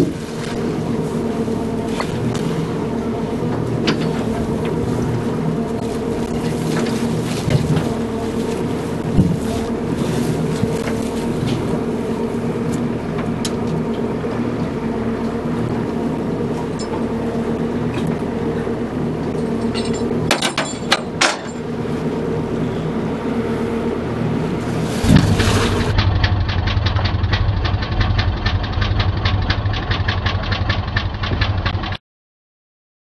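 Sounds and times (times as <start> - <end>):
boat engine idling: 0.0 - 32.0
deep engine running with rapid pulse: 0.0 - 32.0.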